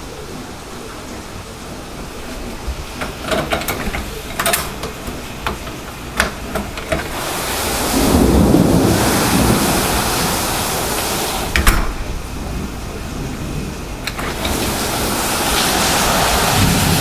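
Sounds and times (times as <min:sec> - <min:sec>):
heavy rain falling: 0:00.0 - 0:17.0
thunder rumbling: 0:00.0 - 0:17.0.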